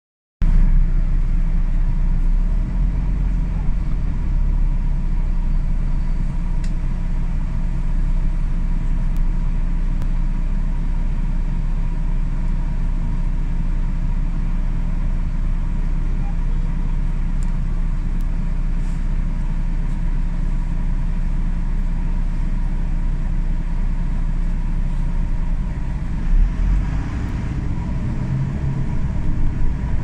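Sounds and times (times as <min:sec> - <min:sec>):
road traffic rumble: 0:00.4 - 0:30.0.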